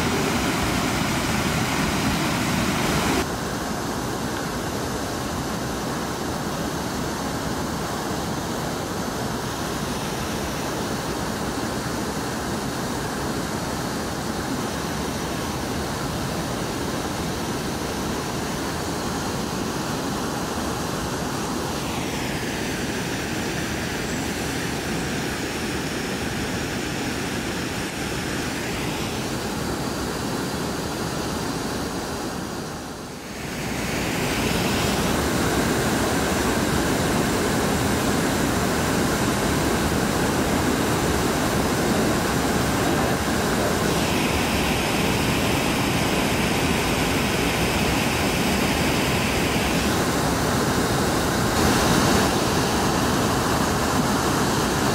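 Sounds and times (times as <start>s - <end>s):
high hiss: 0.0s - 54.9s
waterfall and river rushing: 0.0s - 54.9s.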